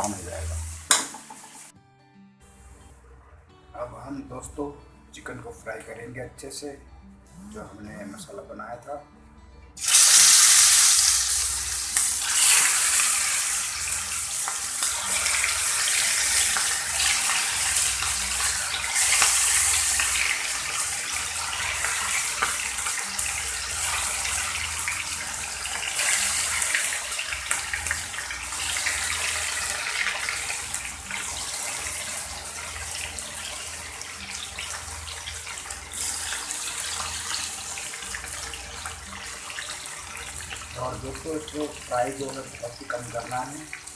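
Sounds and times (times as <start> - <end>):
chicken sizzling in hot oil: 0.0 - 1.7, 9.8 - 43.9.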